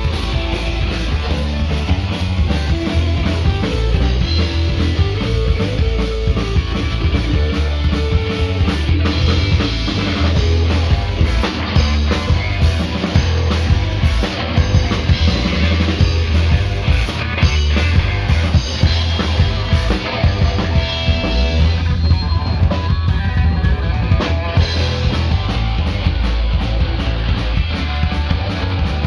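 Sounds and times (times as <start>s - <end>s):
driving cymbal beat: 0.0s - 29.0s
punk rock band playing: 0.0s - 29.0s.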